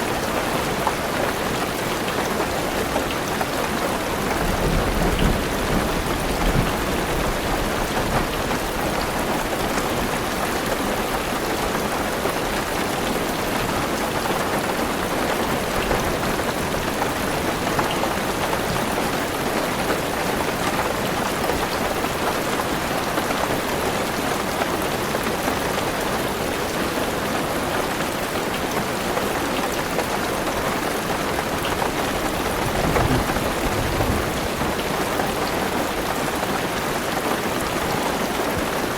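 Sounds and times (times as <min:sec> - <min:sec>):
heavy rain on car roof: 0:00.0 - 0:38.9.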